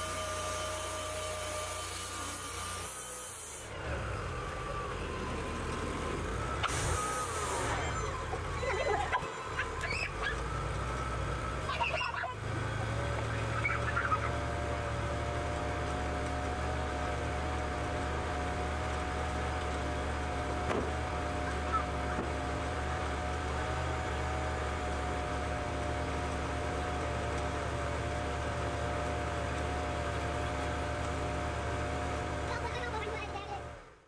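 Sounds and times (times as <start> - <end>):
sawmill running: 0.0 - 34.0.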